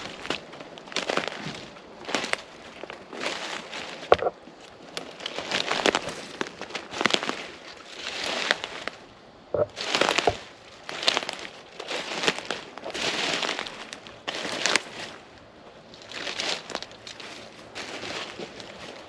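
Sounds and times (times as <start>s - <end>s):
footsteps on dry leaves: 0.0s - 19.0s.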